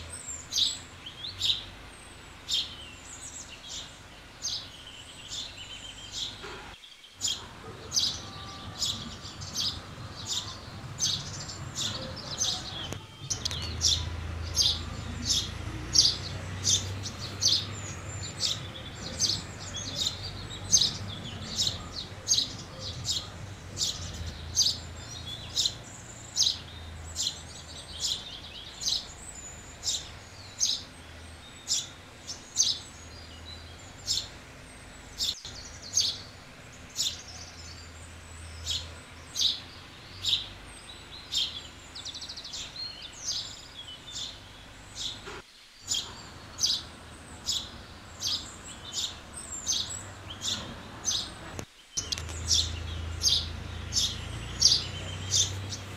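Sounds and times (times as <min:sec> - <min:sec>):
sparrows chirping: 0:00.0 - 0:55.9.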